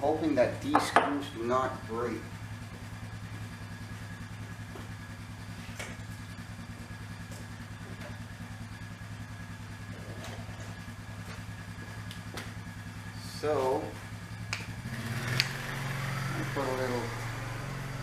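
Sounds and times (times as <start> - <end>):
motor hum with fast pulse: 1.5 - 18.0.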